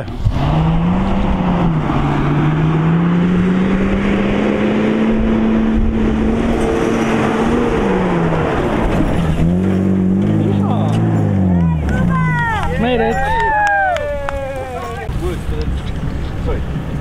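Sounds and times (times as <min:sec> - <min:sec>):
vehicle engine working hard: 0:00.0 - 0:13.8, 0:14.4 - 0:17.0
tyre sand and wind noise: 0:00.0 - 0:17.0.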